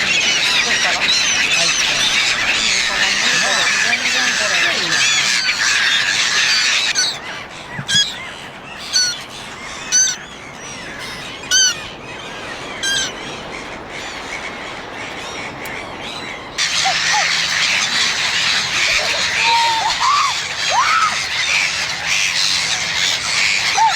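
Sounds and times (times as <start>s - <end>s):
gulls calling: 0.0s - 23.9s.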